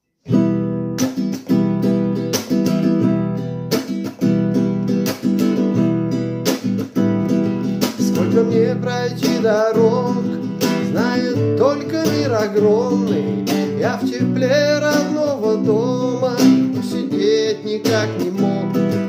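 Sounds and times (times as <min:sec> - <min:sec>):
acoustic guitar strumming: 0:00.2 - 0:19.0.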